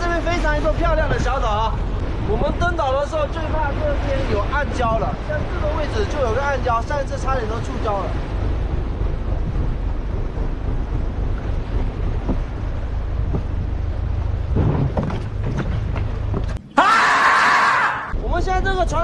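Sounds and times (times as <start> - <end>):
boat hull striking reef: 0.0 - 16.7
steady low rumble: 0.0 - 16.7.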